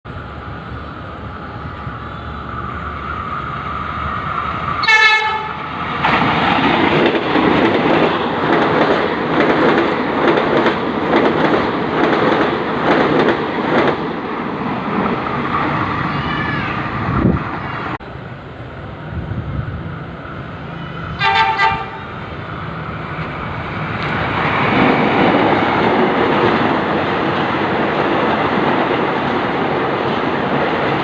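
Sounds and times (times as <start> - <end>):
train passing with wheel clatter: 0.1 - 31.0.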